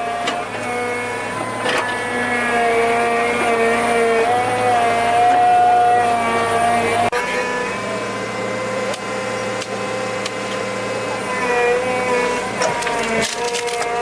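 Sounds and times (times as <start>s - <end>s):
small engine running at high revs: 0.0s - 14.0s.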